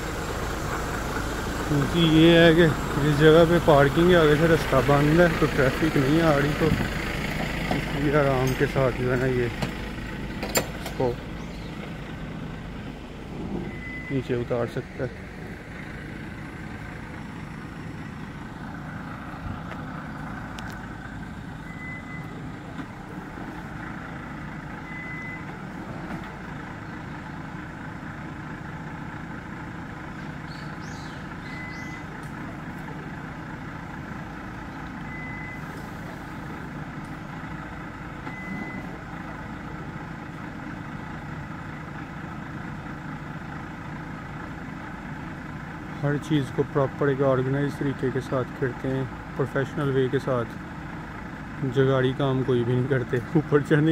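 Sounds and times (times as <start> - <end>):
diesel engine idling: 0.0 - 53.9.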